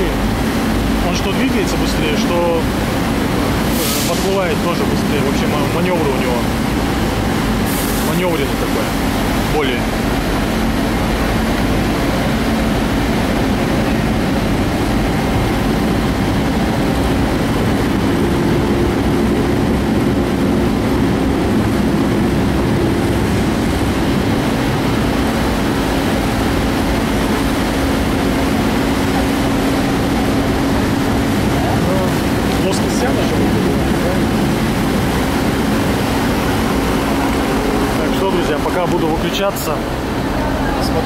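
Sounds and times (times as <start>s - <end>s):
higher hum: 0.0s - 41.0s
ship engines droning: 0.0s - 41.0s.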